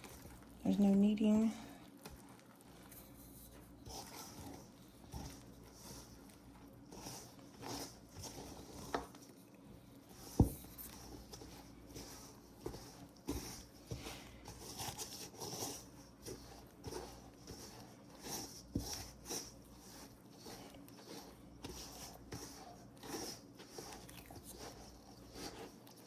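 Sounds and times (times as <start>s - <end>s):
dough squelching: 0.0s - 26.0s.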